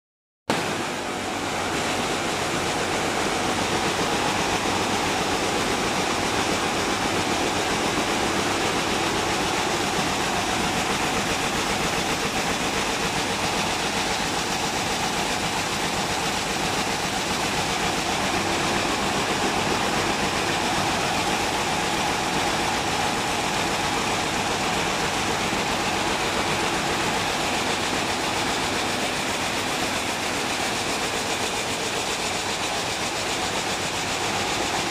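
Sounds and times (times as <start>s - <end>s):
weaving looms clattering: 1.6s - 34.9s.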